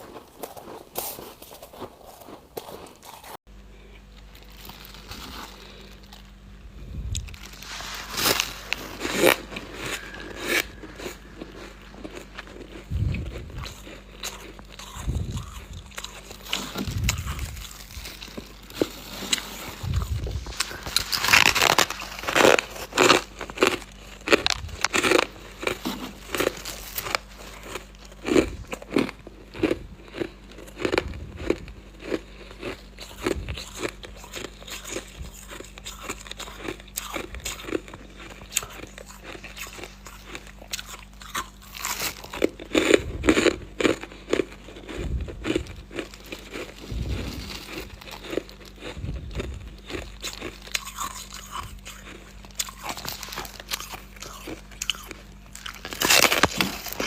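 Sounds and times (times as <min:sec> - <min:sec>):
crunching and chewing frost: 0:00.0 - 0:57.0.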